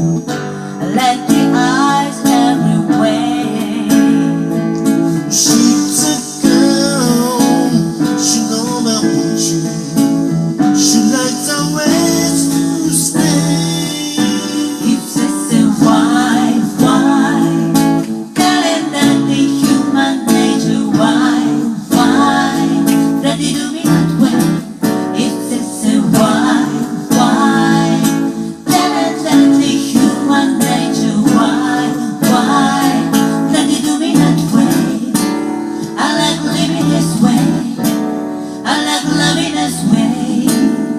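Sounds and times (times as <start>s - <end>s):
person singing: 0.0s - 37.9s, 38.5s - 40.9s
strummed acoustic guitar: 0.0s - 40.9s.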